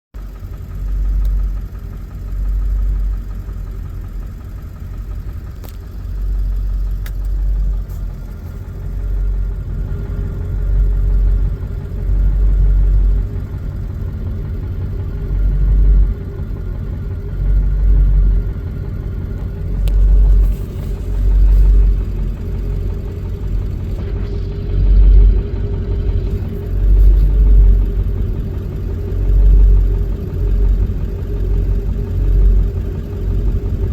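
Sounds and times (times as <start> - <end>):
diesel engine idling roughly: 0.2 - 33.9.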